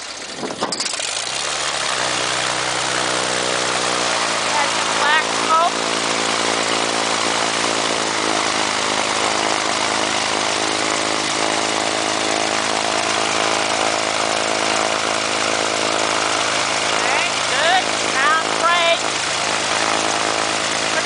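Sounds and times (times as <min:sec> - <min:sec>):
aircraft piston engine idling: 0:00.0 - 0:21.0.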